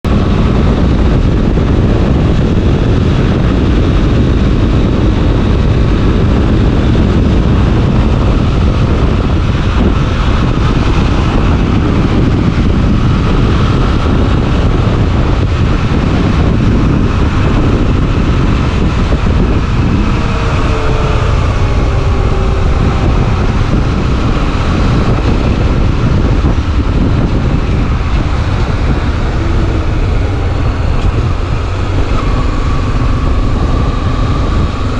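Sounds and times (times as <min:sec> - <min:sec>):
motorcycle engine running: 0:00.0 - 0:34.9
wind rush on microphone: 0:00.0 - 0:34.9.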